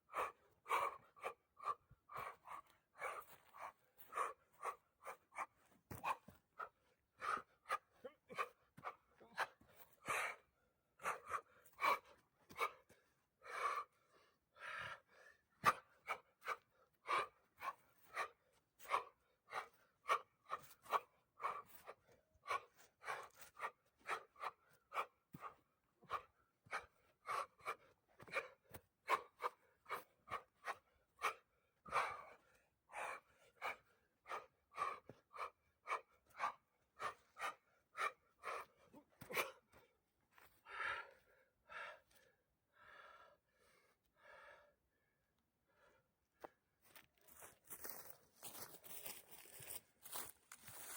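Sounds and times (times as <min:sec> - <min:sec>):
person breathing forcefully: 0:00.0 - 0:44.8.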